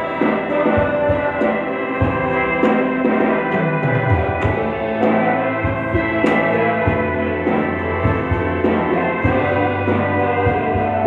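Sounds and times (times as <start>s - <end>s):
electric bass playing low notes: 0.0s - 11.0s
sustained chords: 0.0s - 11.0s.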